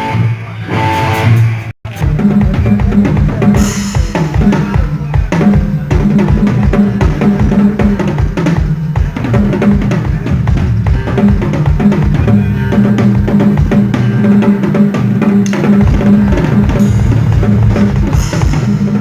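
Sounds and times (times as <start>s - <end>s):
bass drum beat: 1.8s - 19.0s.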